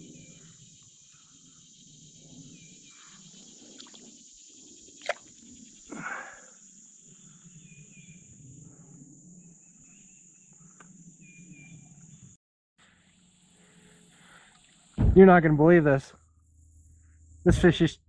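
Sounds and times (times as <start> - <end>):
faint insect chirps: 0.0 - 15.0, 16.2 - 17.9
insects droning: 0.0 - 18.0.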